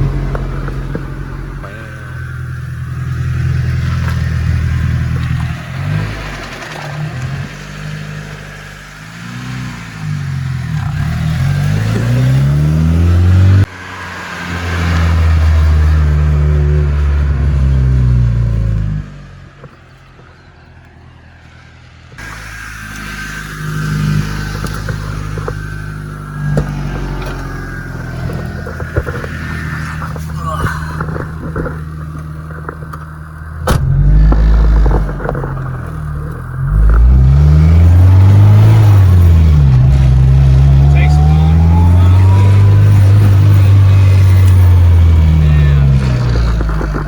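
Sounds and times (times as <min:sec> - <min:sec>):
car engine accelerating hard: 0:00.0 - 0:20.7, 0:22.1 - 0:47.0.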